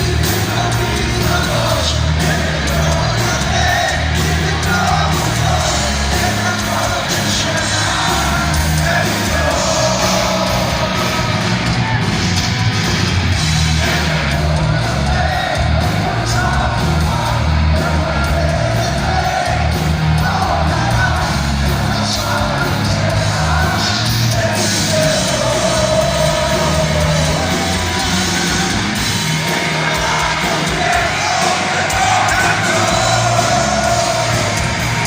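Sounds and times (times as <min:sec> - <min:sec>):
bass guitar: 0:00.0 - 0:35.0
distorted electric guitars: 0:00.0 - 0:35.0
drums: 0:00.0 - 0:35.0.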